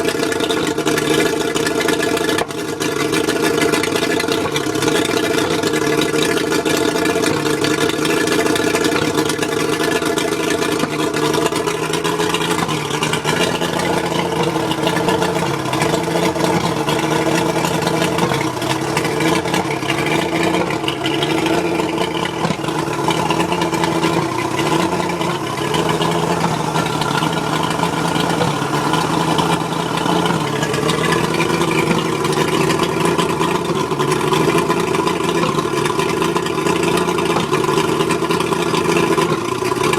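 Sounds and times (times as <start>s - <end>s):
outboard motor running rough: 0.0s - 39.9s.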